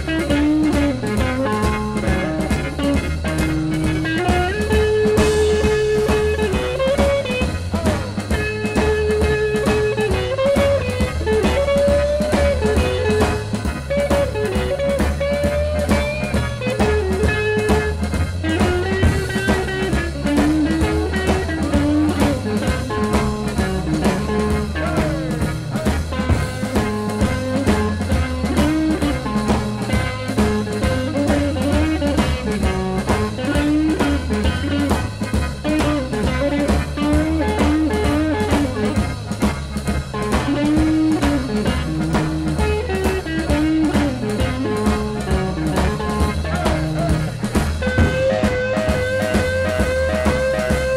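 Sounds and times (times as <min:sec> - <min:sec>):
drums keeping a steady beat: 0:00.0 - 0:50.9
small jazz band playing blues: 0:00.0 - 0:50.9.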